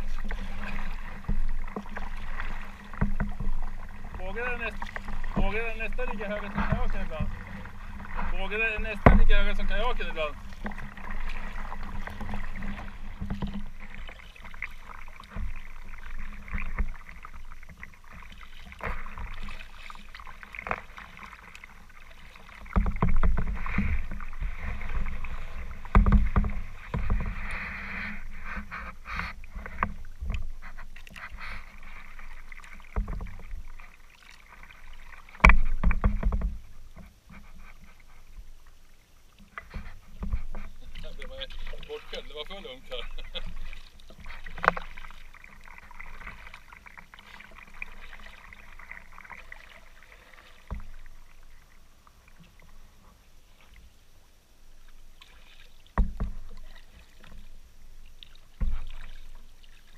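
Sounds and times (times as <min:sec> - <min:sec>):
water thumping against boat: 0:00.0 - 0:38.5, 0:39.3 - 0:53.9, 0:54.8 - 0:59.9
paddle and wave splashes: 0:00.0 - 0:59.9.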